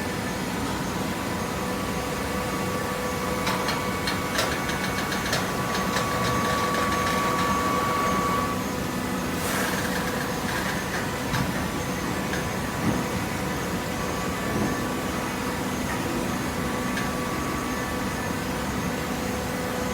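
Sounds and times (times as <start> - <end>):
motor and pump hum: 0.0 - 19.9.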